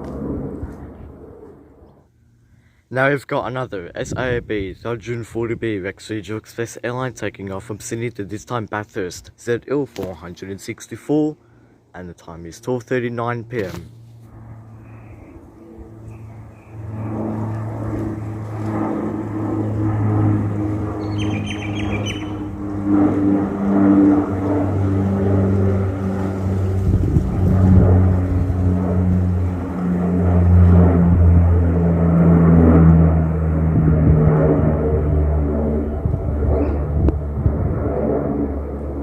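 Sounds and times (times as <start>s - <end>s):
turboprop airliner droning overhead: 0.0s - 39.0s.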